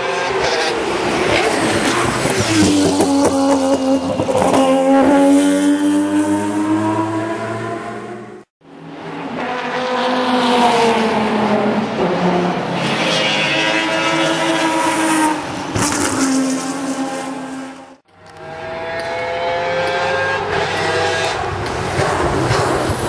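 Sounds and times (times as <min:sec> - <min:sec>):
rotary race car engine: 0:00.0 - 0:23.0.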